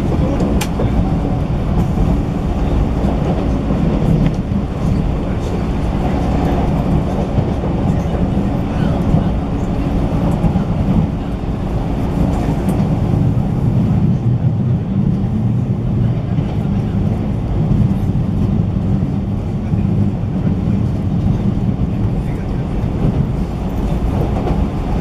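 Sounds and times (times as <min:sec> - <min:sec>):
train running low rumble: 0:00.0 - 0:25.0.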